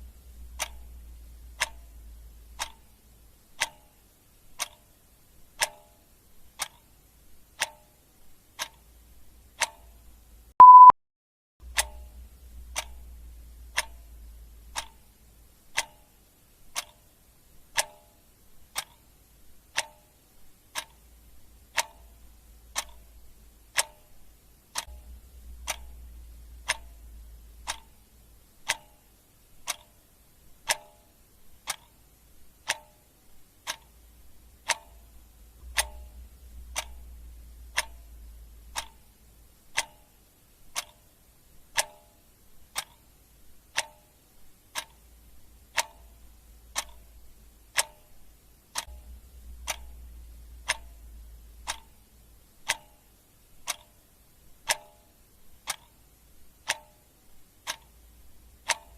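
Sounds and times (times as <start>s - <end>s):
clock ticking: 0.0s - 10.9s, 11.6s - 58.9s.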